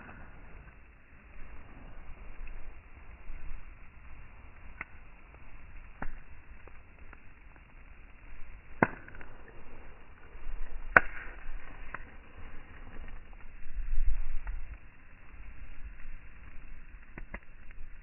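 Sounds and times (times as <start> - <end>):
burning logs popping: 0.0 - 18.0
campfire crackling: 0.0 - 18.0.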